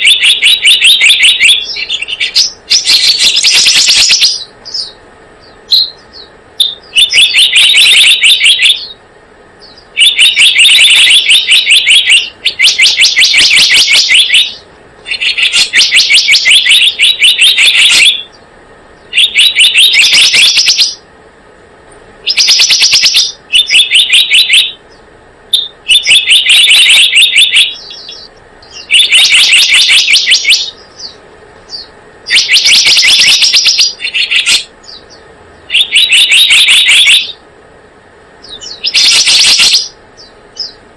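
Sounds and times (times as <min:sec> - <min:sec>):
bird chattering trills: 0:00.0 - 0:21.1, 0:22.2 - 0:37.4, 0:38.4 - 0:40.9.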